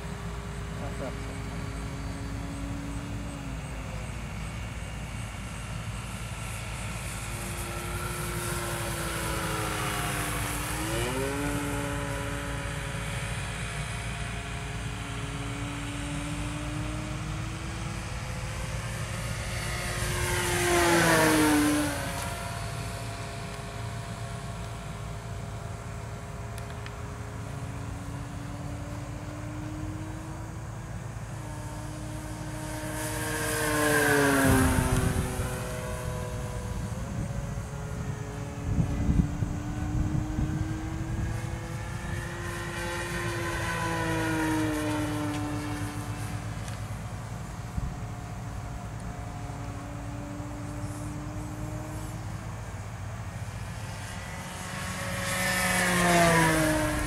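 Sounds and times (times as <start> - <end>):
model airplane motor droning: 0.0 - 57.0.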